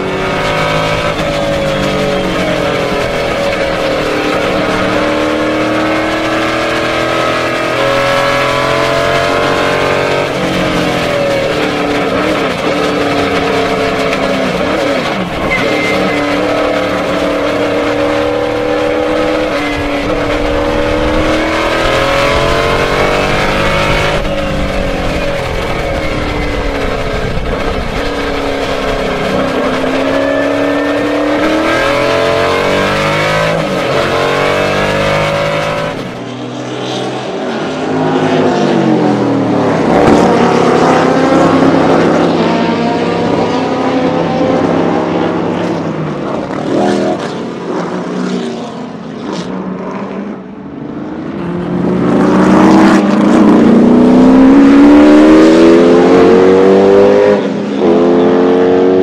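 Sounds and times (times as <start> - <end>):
racing car engine from cockpit: 0.0 - 59.0
racing car heard from trackside: 0.0 - 59.0.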